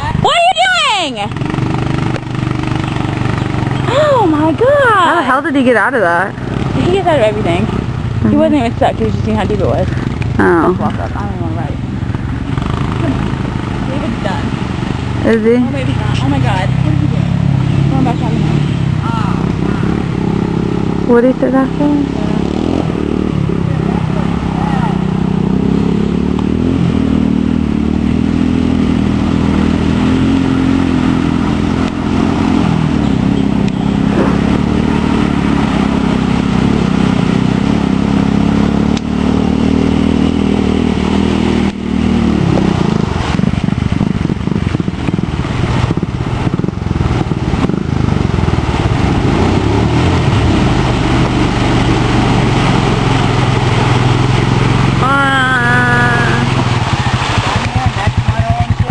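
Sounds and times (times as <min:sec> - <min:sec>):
quad bike engines revving: 0:00.0 - 0:58.9.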